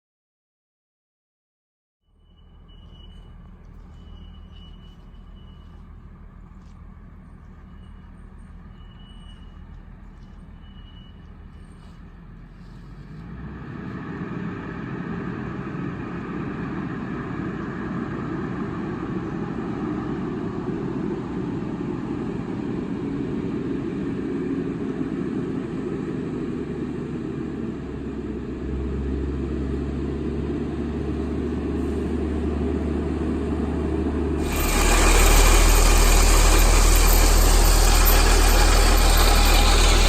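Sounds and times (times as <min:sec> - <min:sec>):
diesel engine running: 0:02.2 - 0:40.0.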